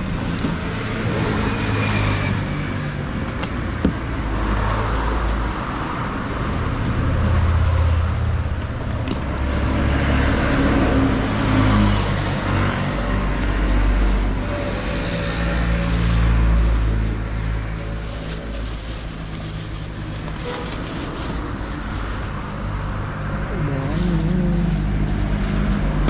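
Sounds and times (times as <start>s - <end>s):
road traffic noise: 0.0s - 26.0s
vehicle engines running: 0.0s - 26.0s.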